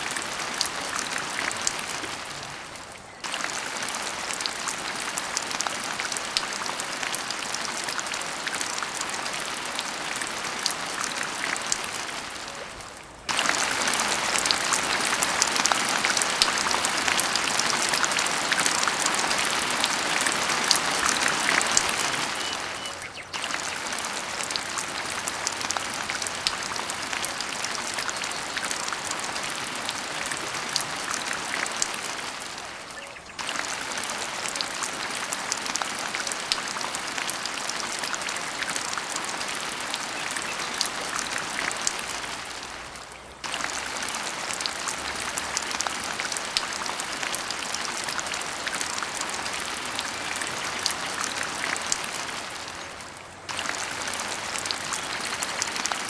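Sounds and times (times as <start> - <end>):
rain patter and hiss: 0.0 - 56.0.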